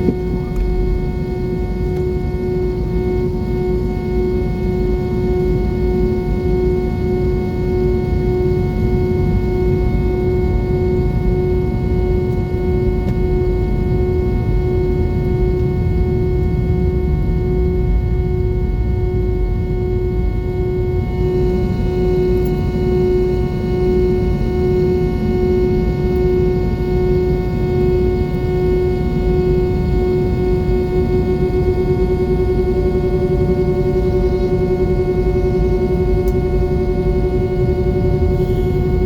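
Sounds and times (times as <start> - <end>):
constant hum: 0.0 - 39.0
jet engine drone: 0.0 - 39.0.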